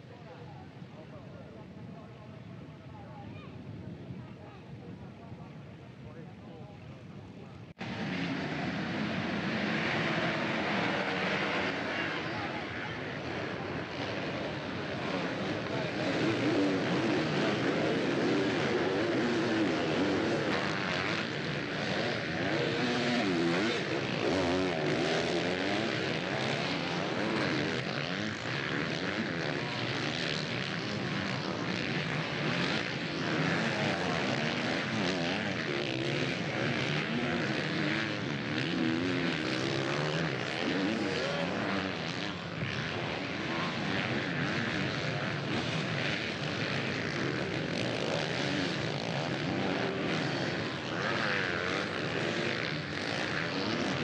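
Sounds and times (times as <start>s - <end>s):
motocross bike engines revving: 7.8s - 54.0s.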